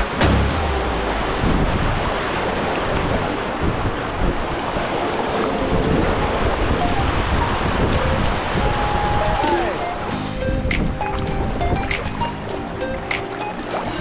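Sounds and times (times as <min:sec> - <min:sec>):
wind noise on microphone: 0:00.6 - 0:14.0.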